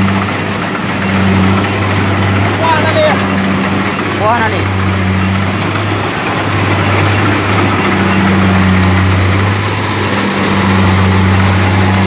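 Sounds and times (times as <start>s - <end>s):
diesel engine humming: 0.0s - 12.0s
working machinery noise: 0.0s - 12.0s.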